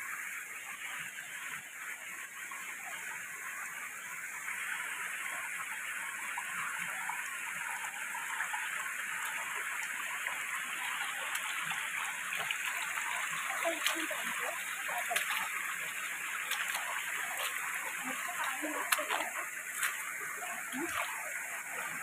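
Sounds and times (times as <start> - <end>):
stream flowing over rocks: 0.0 - 22.0.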